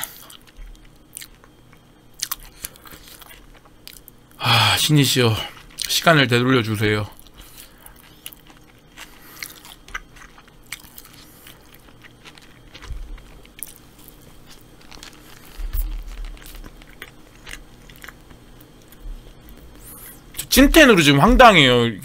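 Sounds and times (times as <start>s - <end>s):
person chewing a burger: 0.0s - 4.4s, 5.5s - 5.9s, 7.1s - 20.5s.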